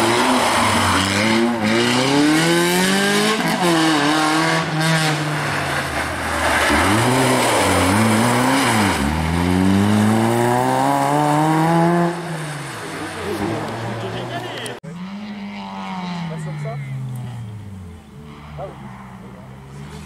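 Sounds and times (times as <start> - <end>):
rally car accelerating with upshifts: 0.0 - 20.0
rally car downshifting: 0.0 - 20.0.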